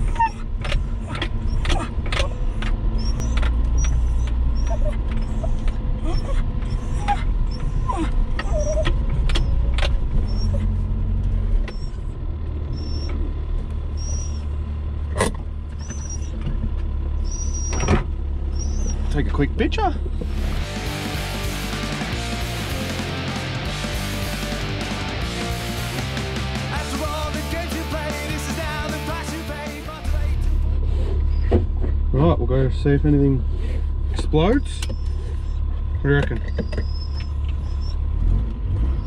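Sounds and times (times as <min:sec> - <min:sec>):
car engine droning: 0:00.0 - 0:39.0.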